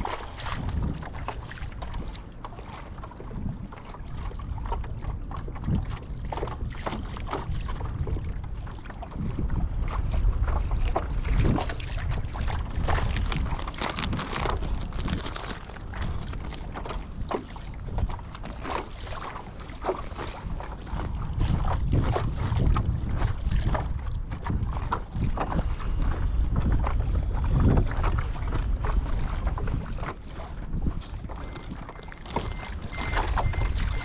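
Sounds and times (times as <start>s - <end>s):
water splashing against hull: 0.0s - 34.0s
wind buffeting microphone: 0.0s - 34.0s.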